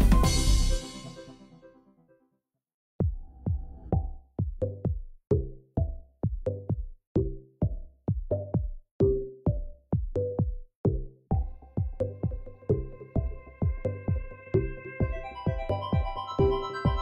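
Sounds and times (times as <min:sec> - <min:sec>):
electronic music with drum-machine beat: 0:00.0 - 0:01.6, 0:03.0 - 0:17.0.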